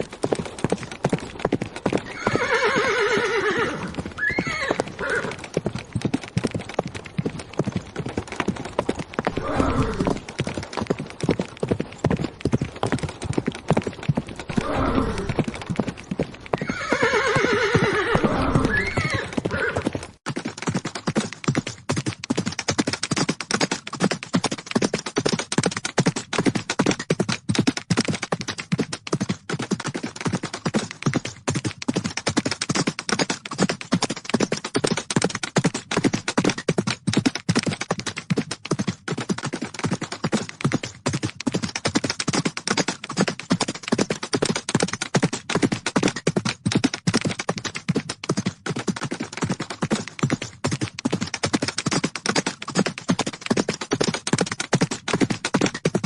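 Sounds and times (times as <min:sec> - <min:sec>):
galloping horse hooves: 0:00.0 - 0:56.0.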